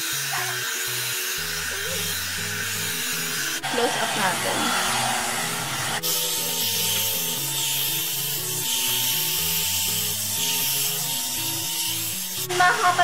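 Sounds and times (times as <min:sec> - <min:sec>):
hair dryer rushing and whining: 0:00.0 - 0:13.0.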